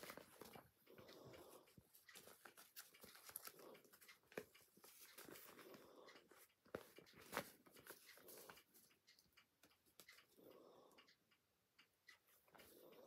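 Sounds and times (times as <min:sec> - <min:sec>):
light clicks and taps: 0:00.0 - 0:13.0.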